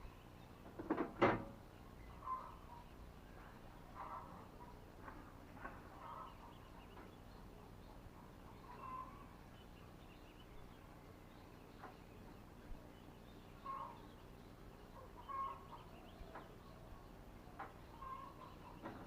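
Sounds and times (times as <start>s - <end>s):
faint chicken clucks: 1.9s - 19.0s.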